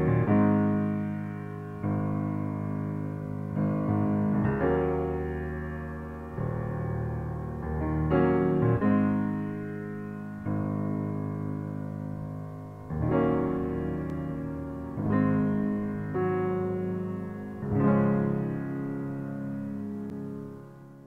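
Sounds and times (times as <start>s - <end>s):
piano slow sustained chords: 0.0s - 21.0s.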